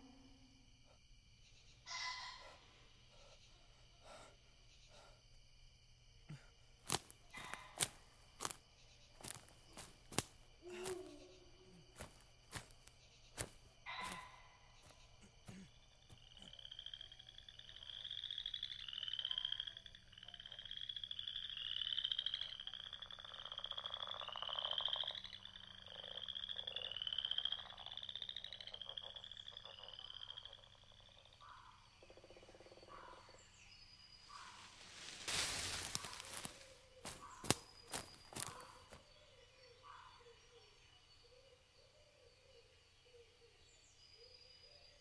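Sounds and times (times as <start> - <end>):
frogs croaking: 0.0 - 45.0.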